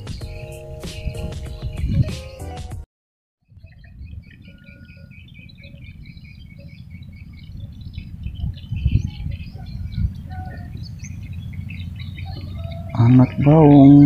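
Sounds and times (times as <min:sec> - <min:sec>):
small birds chirping: 0:00.0 - 0:02.7, 0:03.4 - 0:14.0.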